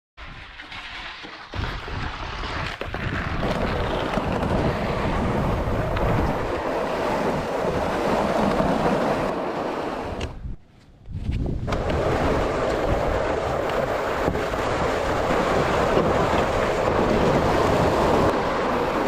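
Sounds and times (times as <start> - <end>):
sled scraping on ice: 0.2 - 10.3, 11.2 - 19.0
wind buffeting microphone: 1.5 - 19.0.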